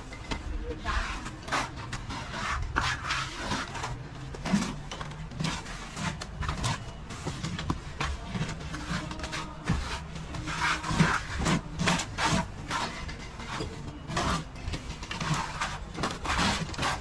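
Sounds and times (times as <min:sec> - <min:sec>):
trowel scraping plaster: 0:00.0 - 0:17.0.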